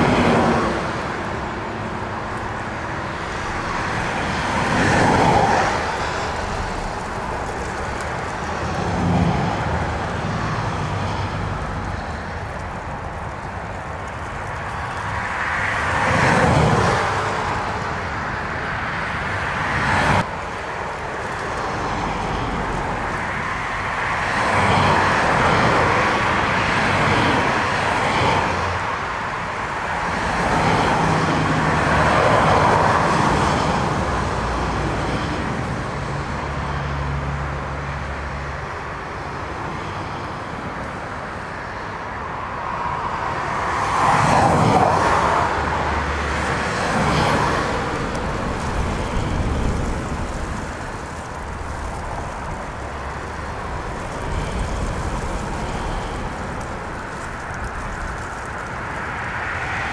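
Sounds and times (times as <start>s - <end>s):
distant jet engines: 0.0s - 59.9s
gusting storm wind: 0.0s - 59.9s.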